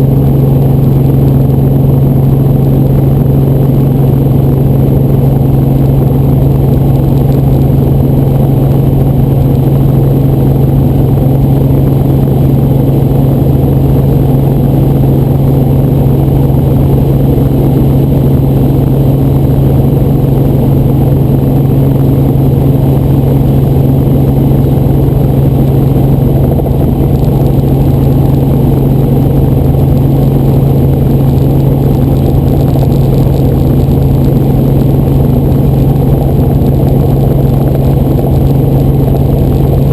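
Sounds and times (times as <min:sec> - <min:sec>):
helicopter droning: 0:00.0 - 0:39.9.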